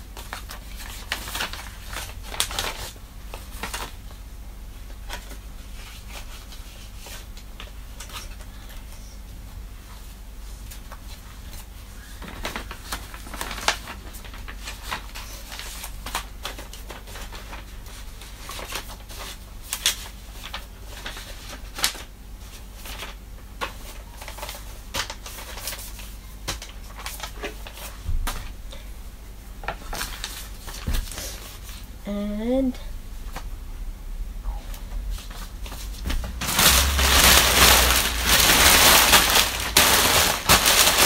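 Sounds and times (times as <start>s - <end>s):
paper rustling and crinkling: 0.0s - 4.2s, 4.9s - 9.0s, 9.8s - 28.8s, 29.6s - 31.9s, 34.9s - 41.0s.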